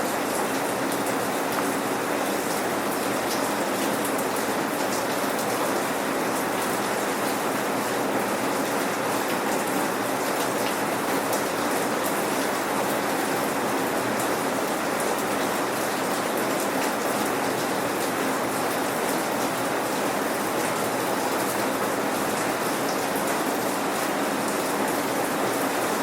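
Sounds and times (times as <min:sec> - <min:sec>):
rain pattering on hard surfaces: 0:00.0 - 0:26.0.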